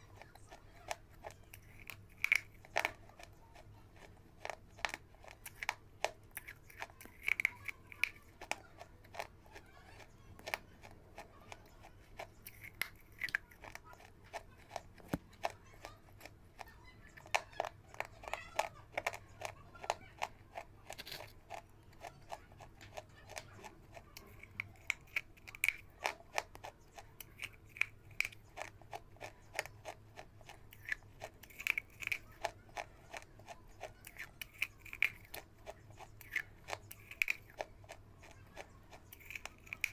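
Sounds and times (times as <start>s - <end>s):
crunchy food chewed close-up: 0.0s - 39.9s.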